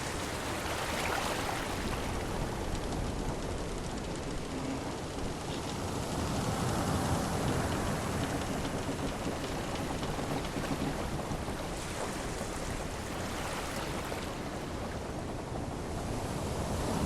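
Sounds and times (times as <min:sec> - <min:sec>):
sea and wind rushing: 0:00.0 - 0:17.0.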